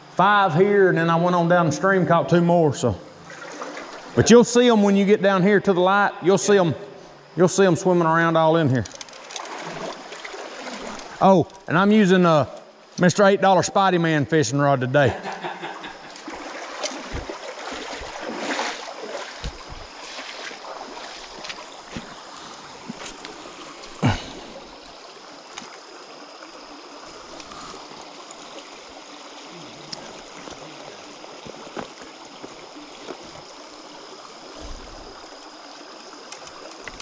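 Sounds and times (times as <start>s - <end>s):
creek water running: 0.0s - 37.0s.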